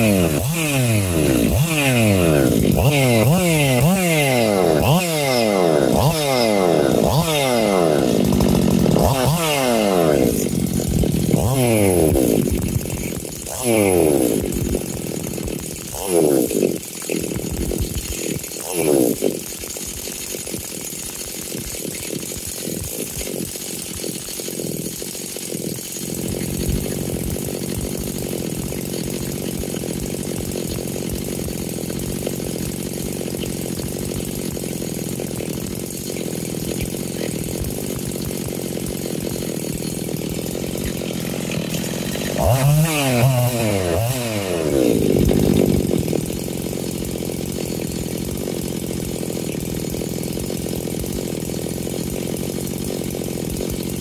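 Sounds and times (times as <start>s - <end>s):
chainsaw engine idling and revving: 0.0s - 54.0s.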